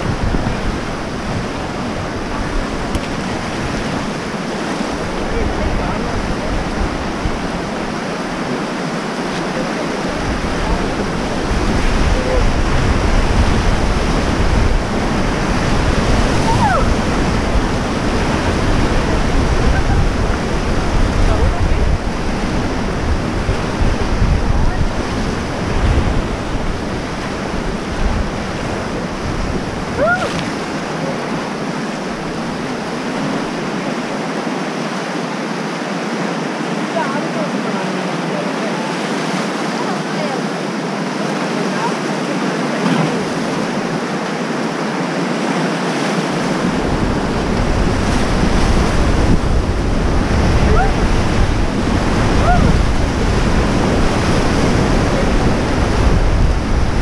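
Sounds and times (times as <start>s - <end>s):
wind buffeting microphone: 0.0s - 34.3s, 39.0s - 57.0s
whitewater rapids rushing: 0.0s - 57.0s.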